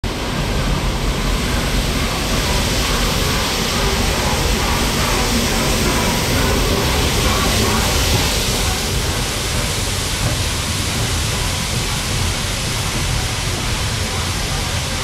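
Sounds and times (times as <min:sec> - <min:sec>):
steam locomotive rushing: 0:00.0 - 0:15.0
train coaches rolling past: 0:00.0 - 0:15.0.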